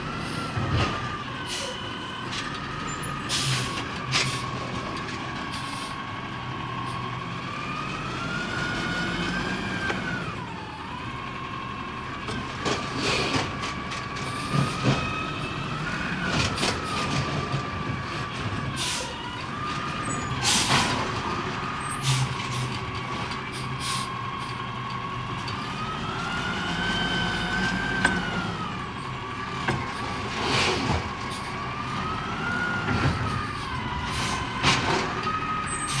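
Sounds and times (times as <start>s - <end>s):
diesel engine running: 0.0s - 36.0s
clanks and bangs of waste loading: 0.1s - 5.9s, 12.2s - 36.0s.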